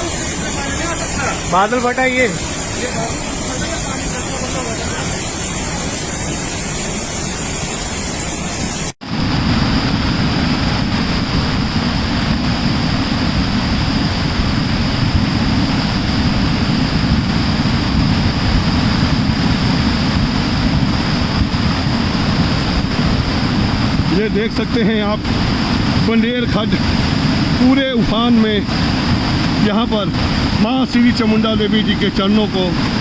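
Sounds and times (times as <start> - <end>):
stream floodwater rushing: 0.0 - 33.0.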